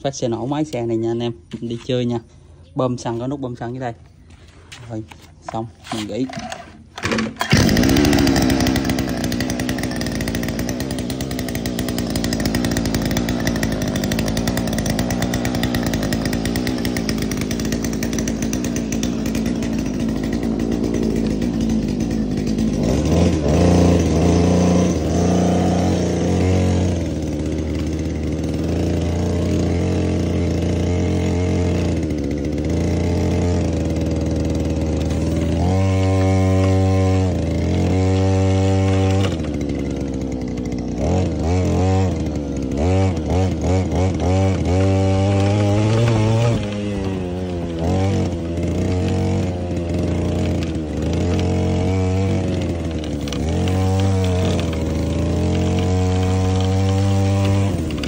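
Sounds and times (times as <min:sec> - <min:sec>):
small two-stroke engine running: 0:02.9 - 0:58.0.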